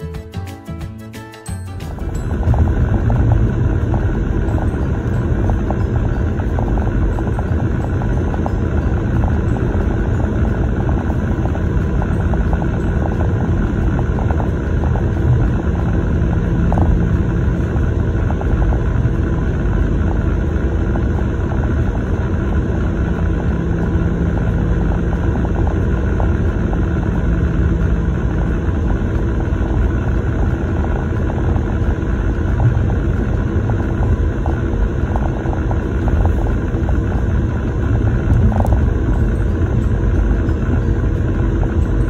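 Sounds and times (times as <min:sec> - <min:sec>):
car interior road rumble: 0:02.0 - 0:42.0.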